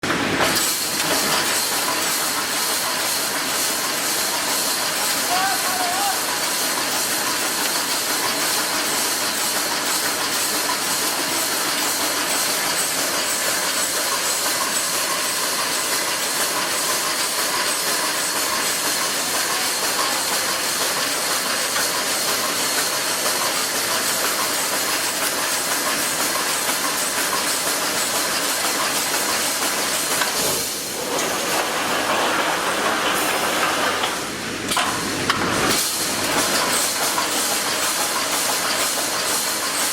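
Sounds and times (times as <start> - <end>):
welding machine hiss: 0.5 - 39.9.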